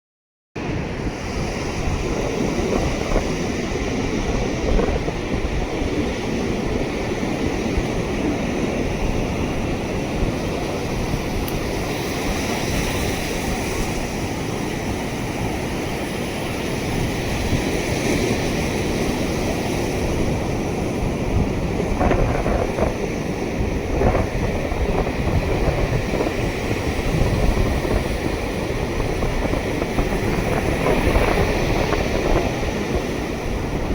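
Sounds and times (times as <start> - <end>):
ocean surf breaking on beach: 0.6 - 33.9
wind rumbling on microphone: 0.6 - 33.9.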